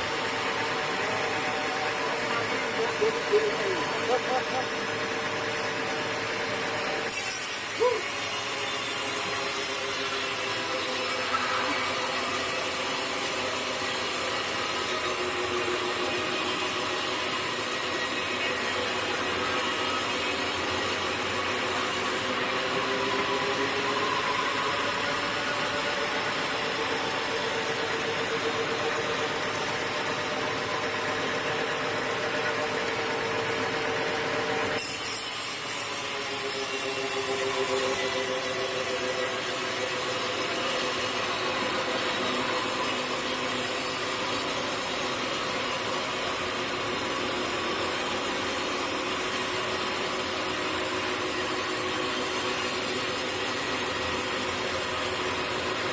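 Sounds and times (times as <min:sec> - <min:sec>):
machine engine: 0:00.0 - 0:55.9
saw cutting through wood: 0:00.0 - 0:55.9.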